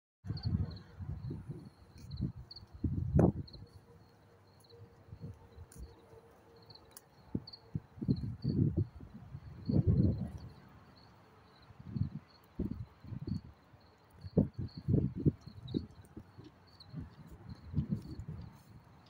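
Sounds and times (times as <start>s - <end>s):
crickets chirping: 0.3s - 19.0s.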